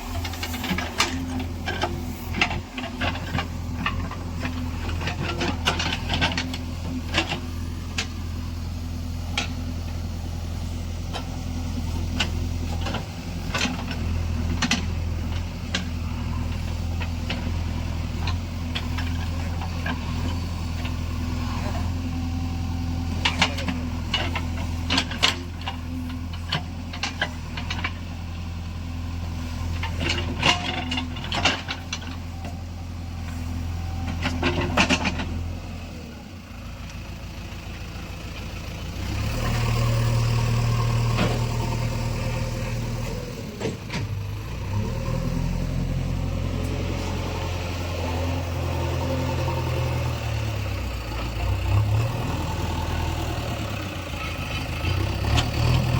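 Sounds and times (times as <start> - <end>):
backhoe loader diesel engine: 0.0 - 55.9.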